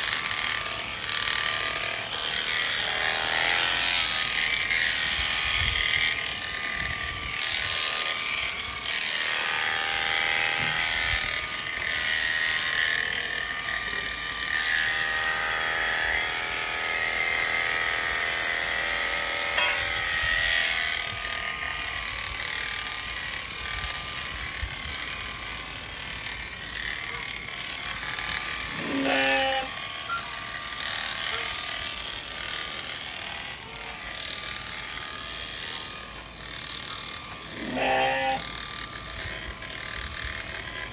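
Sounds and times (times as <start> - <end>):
electric shearing clippers whining: 0.0 - 40.9.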